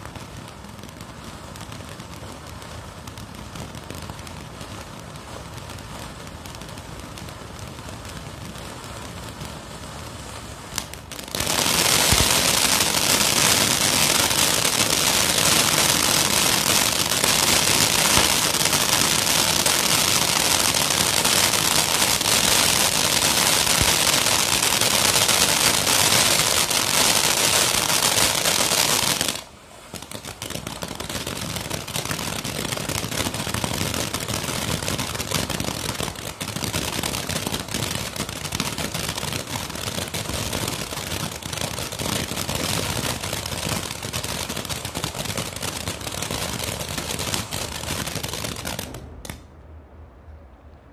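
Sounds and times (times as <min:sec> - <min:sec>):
firework fountain hissing and crackling: 0:00.0 - 0:49.4.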